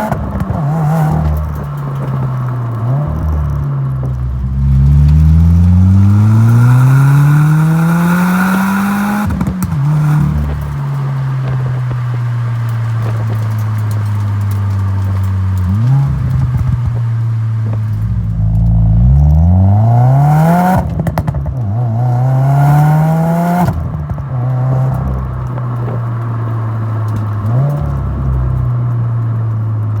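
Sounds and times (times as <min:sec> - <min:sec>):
car engine revving: 0:00.0 - 0:30.0
exhaust pops and crackles: 0:00.0 - 0:30.0.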